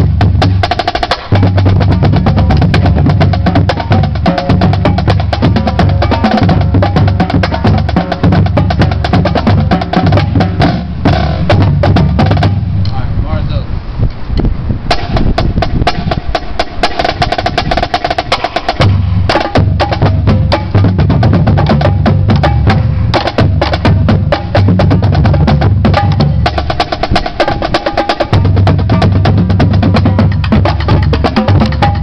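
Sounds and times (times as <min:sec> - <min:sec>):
deep bass drums: 0:00.0 - 0:13.2, 0:14.8 - 0:32.0
snare drum strokes: 0:00.2 - 0:12.6, 0:14.9 - 0:32.0.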